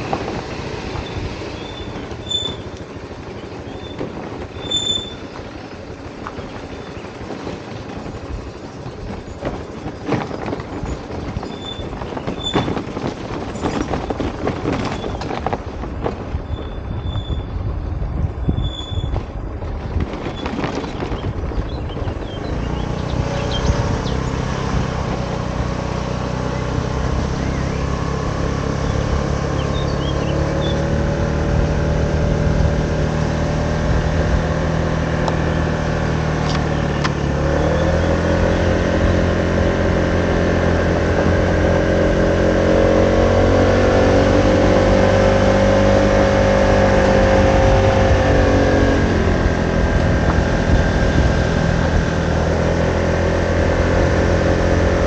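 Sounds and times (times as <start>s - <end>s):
road and wind noise: 0.0s - 55.0s
scooter engine humming: 0.0s - 55.0s.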